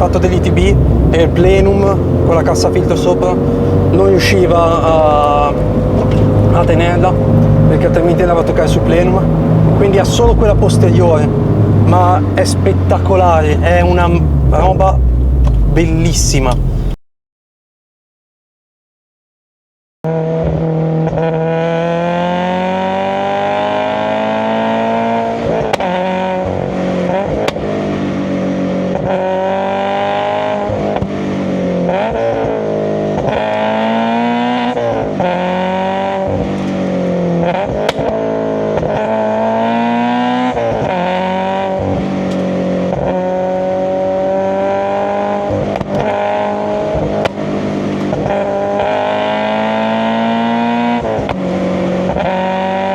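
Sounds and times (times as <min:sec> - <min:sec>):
car engine revving: 0:00.0 - 0:17.0, 0:20.1 - 0:52.9.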